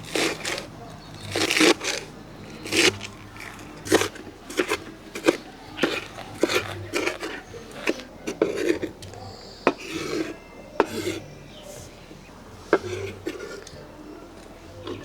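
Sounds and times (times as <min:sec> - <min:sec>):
utensils scraping cookware: 0:00.0 - 0:14.0, 0:14.7 - 0:15.0.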